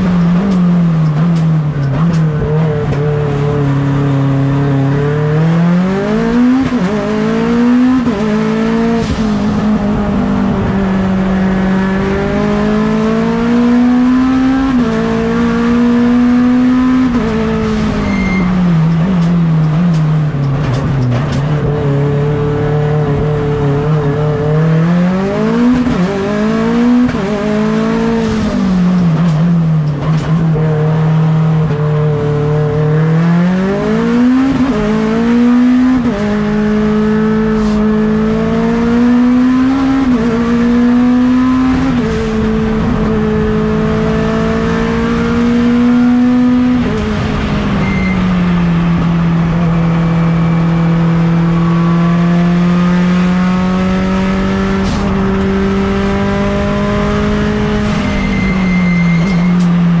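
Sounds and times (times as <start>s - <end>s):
race car engine at full effort: 0.0s - 60.0s.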